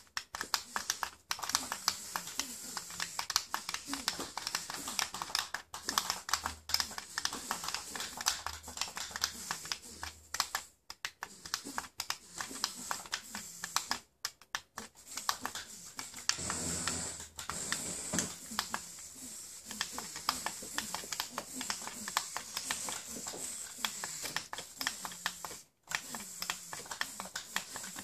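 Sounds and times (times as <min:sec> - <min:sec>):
rapid irregular clicking: 0:00.0 - 0:28.0.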